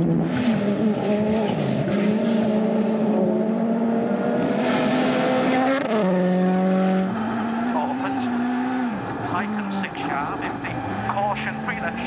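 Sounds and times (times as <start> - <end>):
car engine pulling hard: 0.0 - 12.0.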